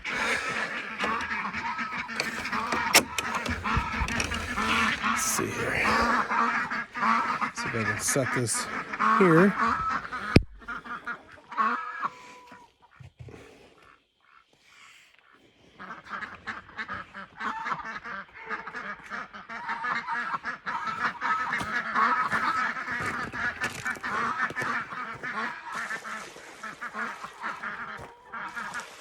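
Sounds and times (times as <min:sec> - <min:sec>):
ducks quacking: 0:00.0 - 0:13.0, 0:15.3 - 0:29.0.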